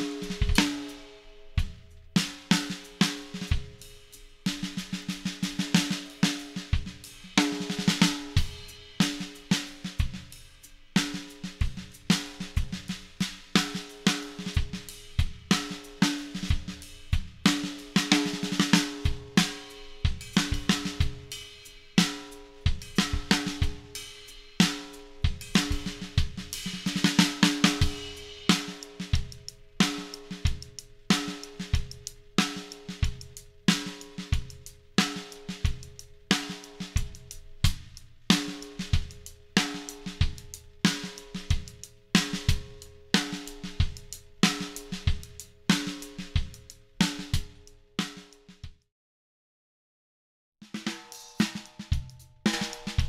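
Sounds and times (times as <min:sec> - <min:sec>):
drum kit groove: 0:00.0 - 0:48.8, 0:50.6 - 0:53.0.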